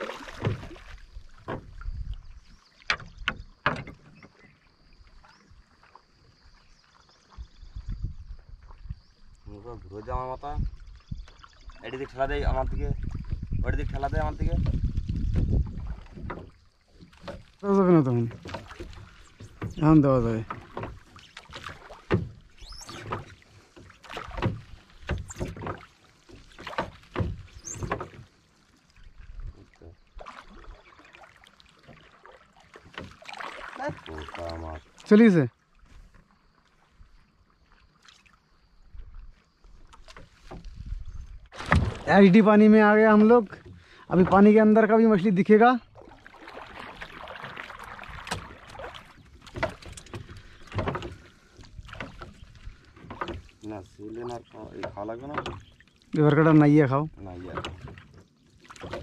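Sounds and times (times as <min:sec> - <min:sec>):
water lapping against boat hull: 0:00.0 - 0:59.0.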